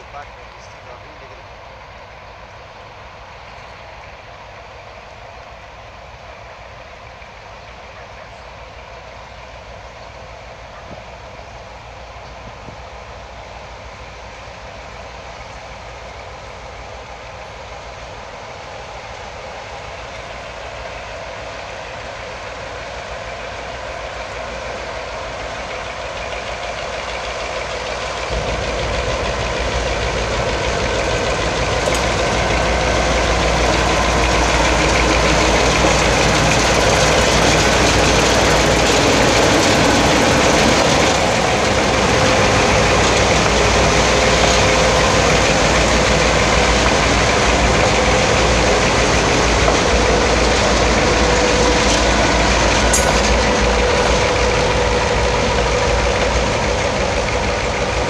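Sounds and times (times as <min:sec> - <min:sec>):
diesel locomotive engines: 0:00.0 - 0:58.0.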